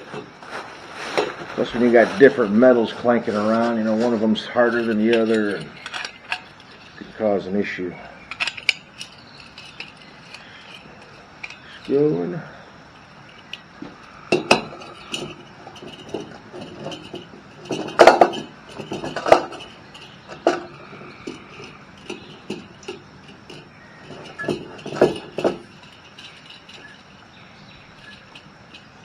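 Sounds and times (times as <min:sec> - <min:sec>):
metal cookware clinking: 0:03.3 - 0:07.2, 0:08.2 - 0:29.0.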